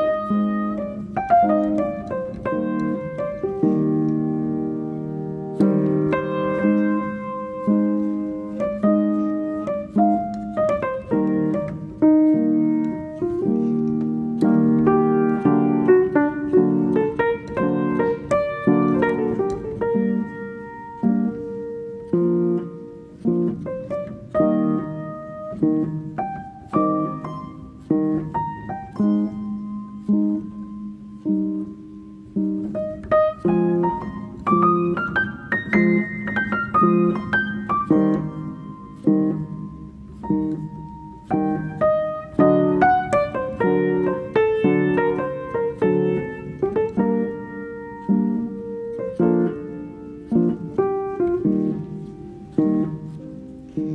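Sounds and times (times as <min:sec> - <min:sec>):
piano music: 0:00.0 - 0:53.9.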